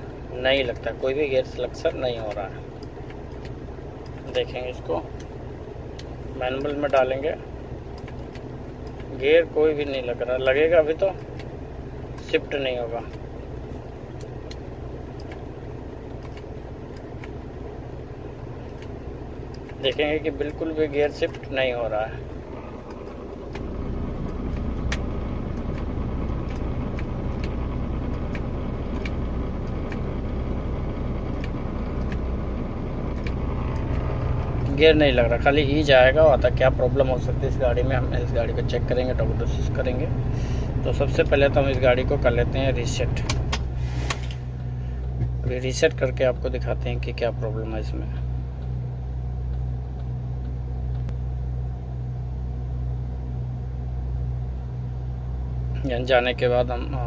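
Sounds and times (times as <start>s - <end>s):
light ticking: 0.0s - 53.6s
diesel truck engine idling: 0.0s - 57.0s.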